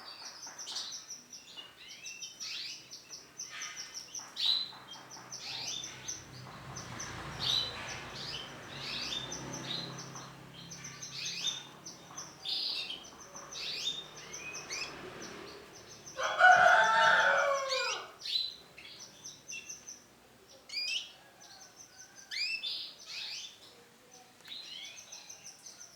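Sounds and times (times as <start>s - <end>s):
canary chirping: 0.1s - 21.2s.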